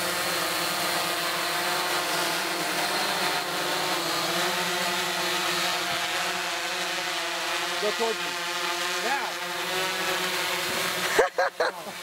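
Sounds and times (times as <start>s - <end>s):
drone buzzing hum: 0.0s - 12.0s.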